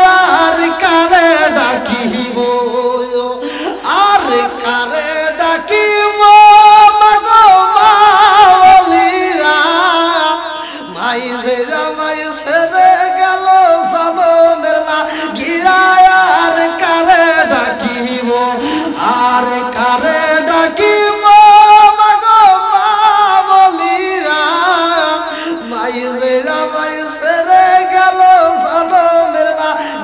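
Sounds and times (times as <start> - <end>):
man chanting a devotional song: 0.0 - 30.0.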